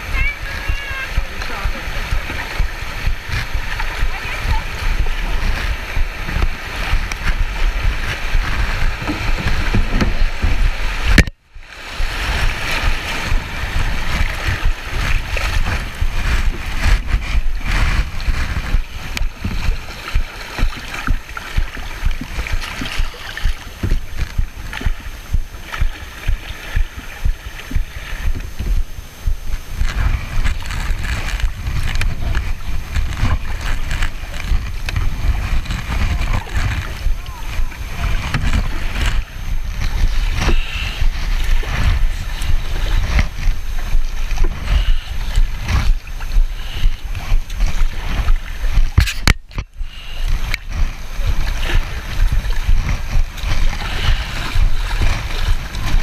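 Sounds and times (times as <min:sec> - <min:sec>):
creek water rushing and splashing: 0:00.0 - 0:56.0
paddle strokes: 0:00.0 - 0:56.0
wind rumble on microphone: 0:00.0 - 0:56.0.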